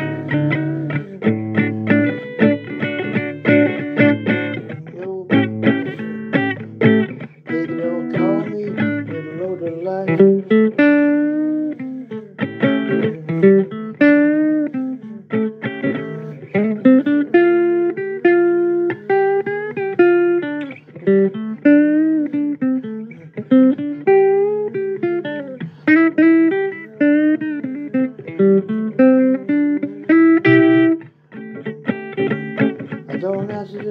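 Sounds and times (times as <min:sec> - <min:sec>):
blues guitar playing: 0:00.0 - 0:33.9.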